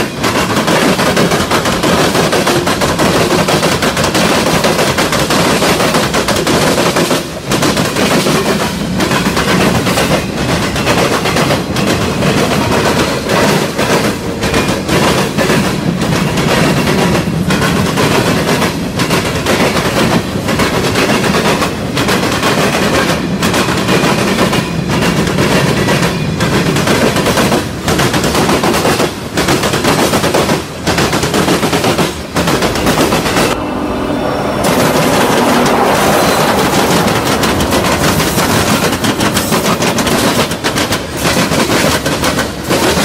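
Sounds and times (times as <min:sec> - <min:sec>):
freight train wheels rumbling on rails: 0:00.0 - 0:43.0
train cars clattering and banging: 0:00.0 - 0:43.0.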